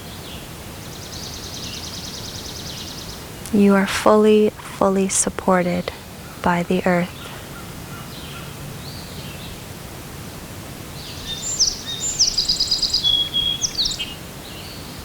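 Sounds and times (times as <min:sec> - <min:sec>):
steady outdoor hiss: 0:00.0 - 0:15.0
songbird singing: 0:00.2 - 0:09.6, 0:11.0 - 0:15.0.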